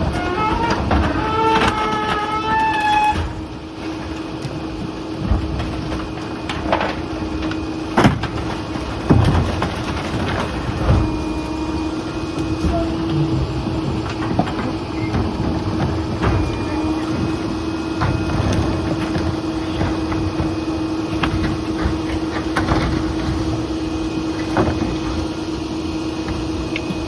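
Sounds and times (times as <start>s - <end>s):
garbage truck engine drone: 0.0s - 27.0s.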